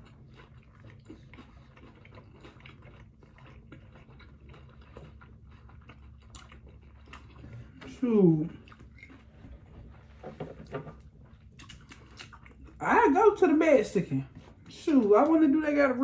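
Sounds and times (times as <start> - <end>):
people chewing and smacking: 0.0 - 12.8
low steady hum: 0.0 - 16.0.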